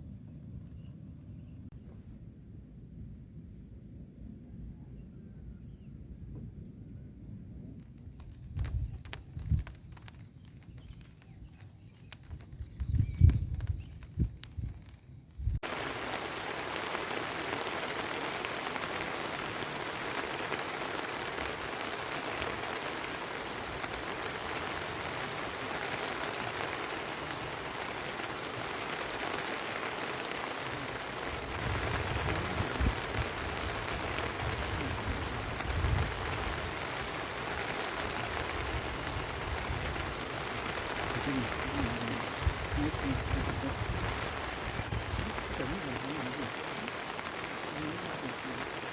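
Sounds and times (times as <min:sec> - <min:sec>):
steady rain: 0:07.8 - 0:48.9.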